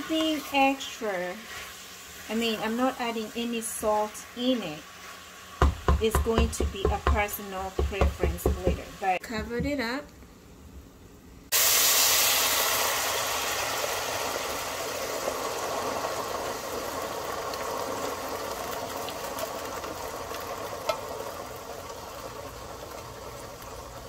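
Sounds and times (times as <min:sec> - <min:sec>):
boiling water hissing: 0:00.0 - 0:09.2, 0:11.5 - 0:24.0.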